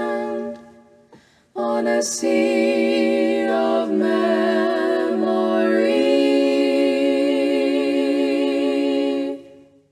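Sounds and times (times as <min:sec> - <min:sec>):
women singing in harmony: 0:00.0 - 0:09.8.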